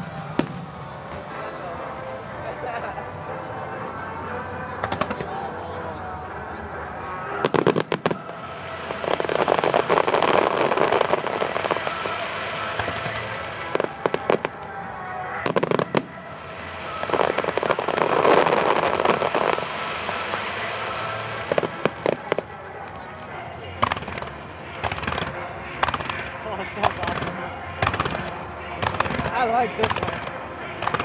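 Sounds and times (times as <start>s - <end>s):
firework crackling: 0.0s - 31.0s.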